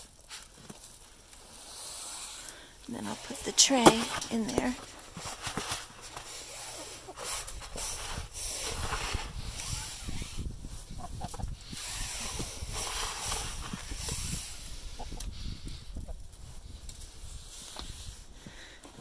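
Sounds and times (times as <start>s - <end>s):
grain rustling in a rubber tub: 0.0s - 18.4s.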